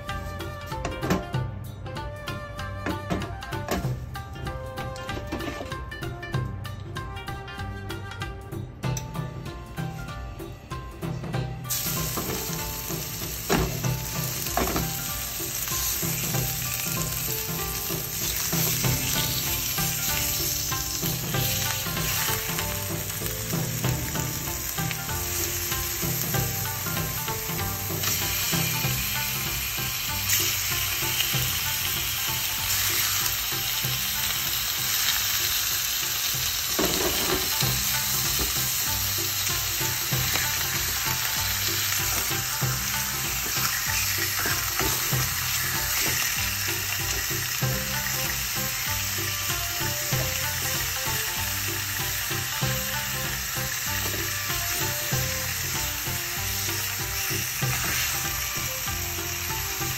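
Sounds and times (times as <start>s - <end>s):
meat sizzling in a frying pan: 11.7s - 59.9s.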